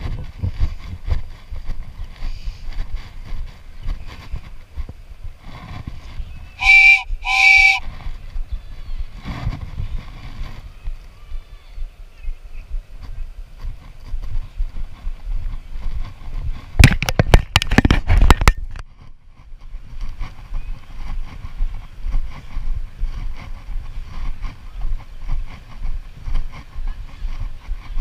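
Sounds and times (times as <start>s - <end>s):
wind noise on microphone: 0.0s - 28.0s.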